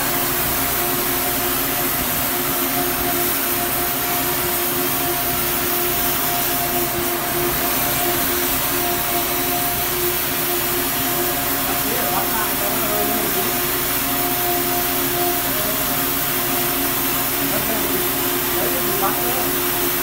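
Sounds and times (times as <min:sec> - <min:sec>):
gas torch hissing: 0:00.0 - 0:20.0
machinery humming: 0:00.0 - 0:20.0.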